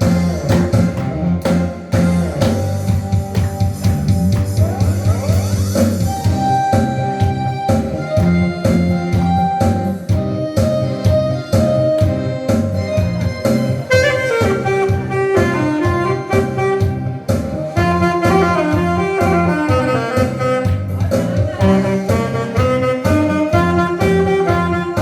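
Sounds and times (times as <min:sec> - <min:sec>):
backing track with drums and bass: 0:00.0 - 0:25.0
alto saxophone melody: 0:04.6 - 0:25.0.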